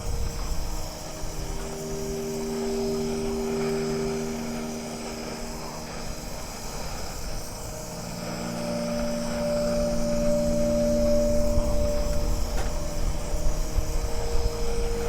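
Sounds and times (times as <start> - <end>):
sustained chord tones: 0.0 - 15.0
wind buffeting microphone: 0.0 - 15.0.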